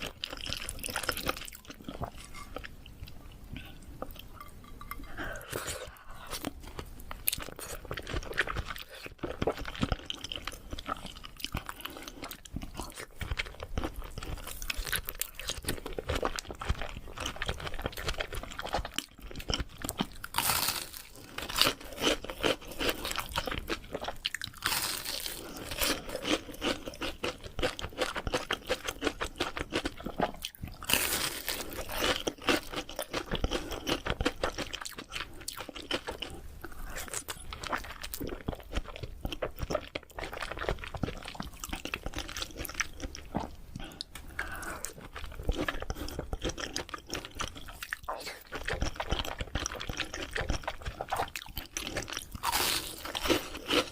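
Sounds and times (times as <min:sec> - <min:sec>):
close chewing of food: 0:00.0 - 0:53.9.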